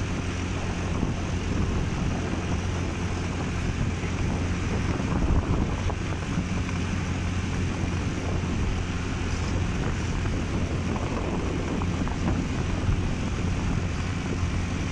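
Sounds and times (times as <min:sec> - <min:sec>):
motorcycle engine running: 0:00.0 - 0:14.9
wind rushing over microphone: 0:00.0 - 0:14.9.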